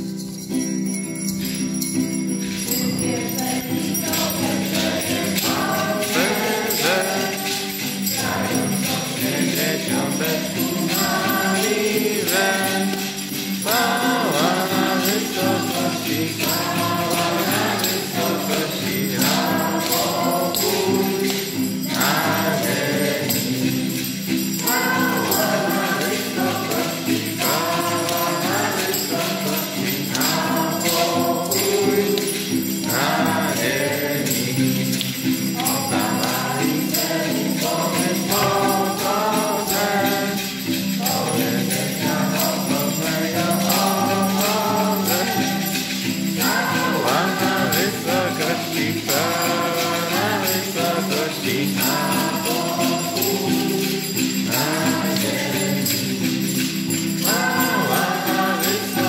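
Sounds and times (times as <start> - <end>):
strummed acoustic guitar: 0.0 - 59.0
group singing carol: 2.4 - 59.0.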